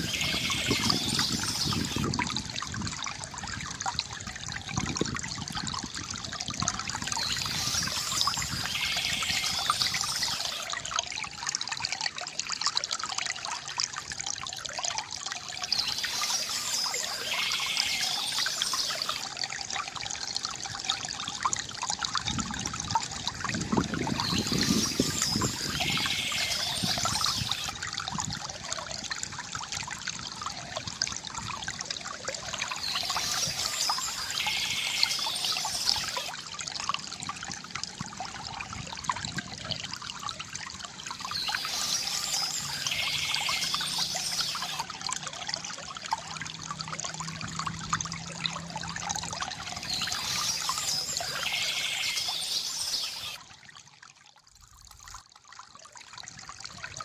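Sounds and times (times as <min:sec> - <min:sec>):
deeper water gurgle: 0:00.0 - 0:57.0
fountain water trickling: 0:00.0 - 0:57.0.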